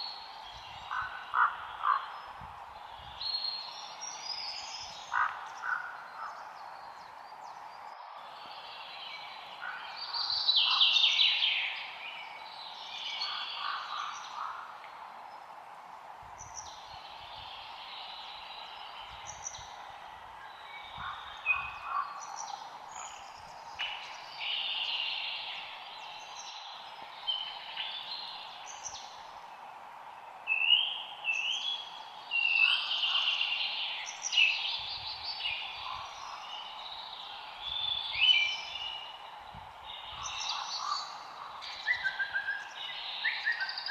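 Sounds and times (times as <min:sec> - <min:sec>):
songbirds chirping and trilling: 0:00.0 - 0:43.9
steady background hiss: 0:00.0 - 0:43.9.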